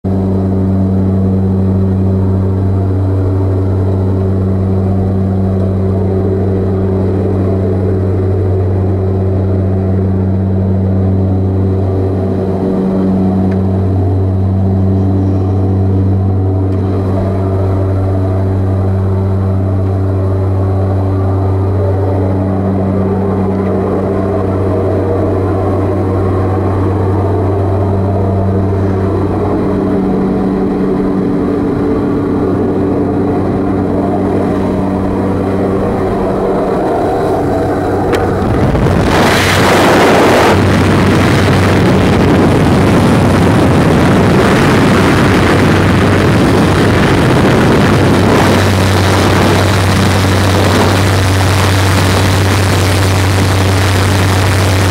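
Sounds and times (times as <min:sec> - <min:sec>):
propeller aircraft engine drone: 0:00.0 - 0:54.9.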